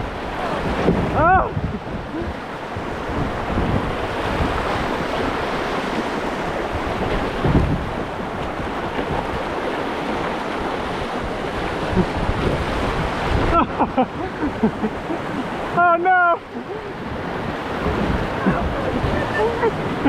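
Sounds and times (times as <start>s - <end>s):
rushing whitewater: 0.0s - 20.0s.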